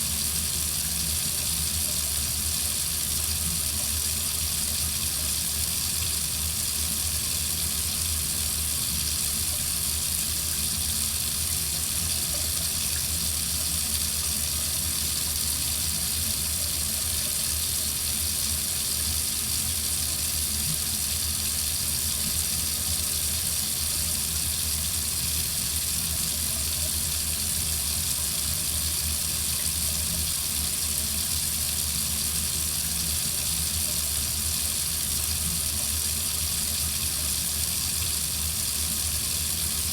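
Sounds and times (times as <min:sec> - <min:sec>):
faucet running into sink: 0:00.0 - 0:39.9.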